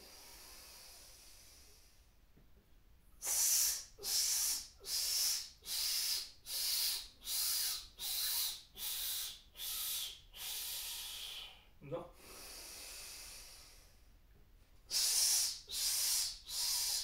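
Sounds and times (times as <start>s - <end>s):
man exhaling hissing through teeth: 0.0s - 2.0s, 3.2s - 14.0s, 14.9s - 17.0s
man inhaling: 0.0s - 2.0s, 3.2s - 14.0s, 14.9s - 17.0s.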